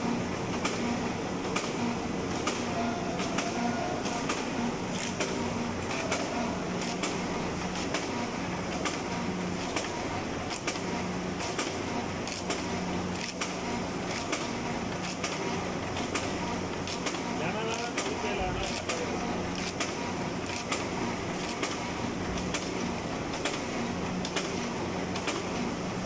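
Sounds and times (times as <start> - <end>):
sharp machine clicks and knocks: 0.5 - 25.7.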